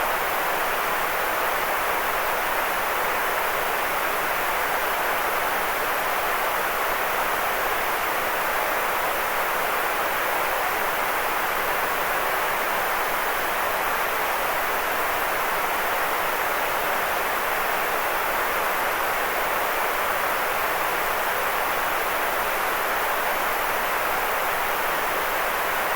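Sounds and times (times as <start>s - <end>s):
steady white noise hiss: 0.0s - 25.9s.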